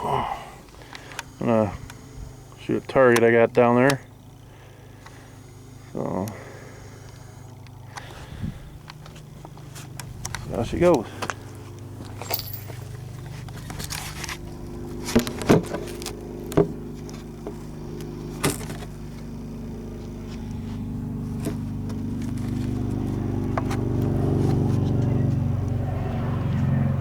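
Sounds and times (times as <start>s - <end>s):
steady engine-like hum: 0.0s - 27.0s.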